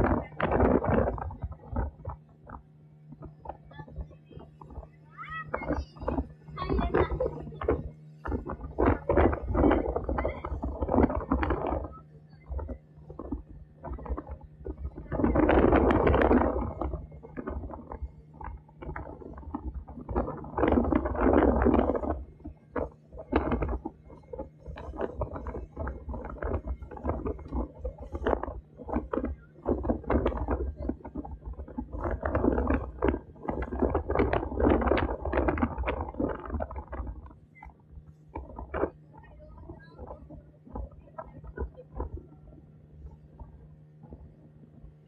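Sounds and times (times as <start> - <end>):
motorboat engine droning: 0.0 - 45.0
water splashing along hull: 0.0 - 45.0.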